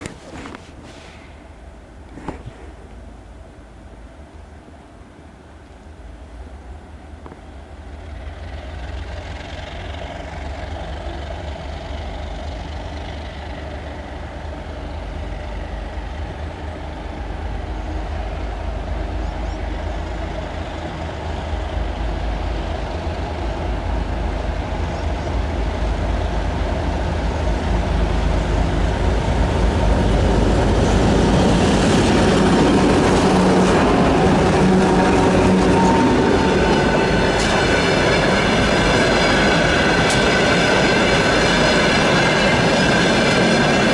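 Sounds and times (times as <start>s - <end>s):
diesel locomotive engine rumble: 0.0s - 43.9s.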